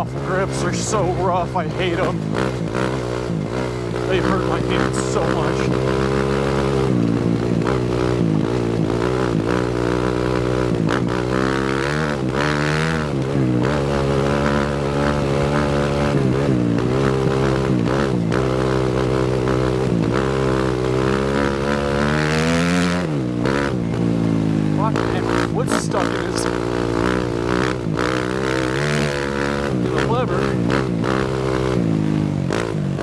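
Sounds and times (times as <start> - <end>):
motocross bike engine revving: 0.0 - 33.0.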